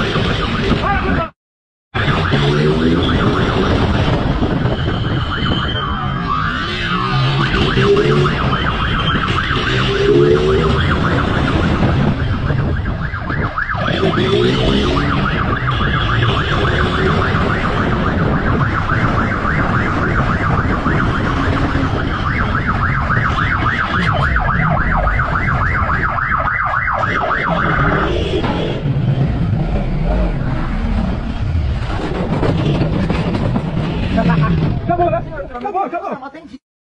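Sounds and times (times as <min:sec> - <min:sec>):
siren yelping: 0:00.0 - 0:01.2, 0:02.0 - 0:31.2.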